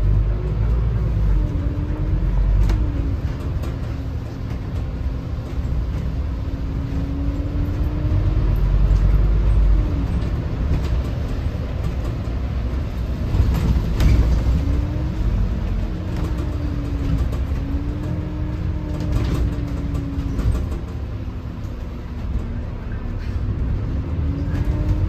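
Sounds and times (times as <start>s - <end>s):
diesel bus engine rumble: 0.0s - 25.0s.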